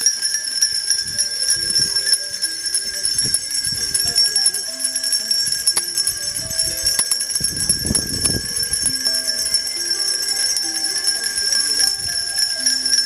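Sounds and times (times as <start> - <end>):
hand bells ringing: 0.0 - 13.0.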